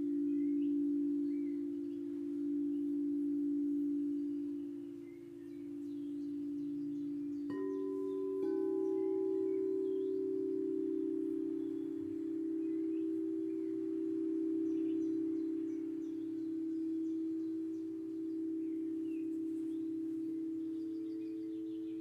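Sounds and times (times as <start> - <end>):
faint bird chirps: 0.0 - 22.0
singing bowl struck: 0.0 - 22.0
singing bowls humming: 0.0 - 22.0.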